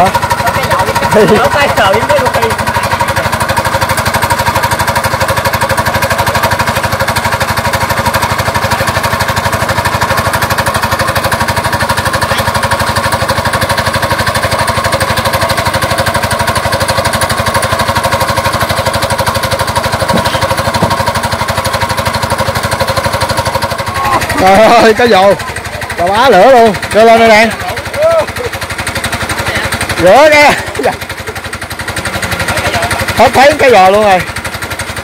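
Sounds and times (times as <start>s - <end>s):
water pump engine running: 0.0s - 35.0s.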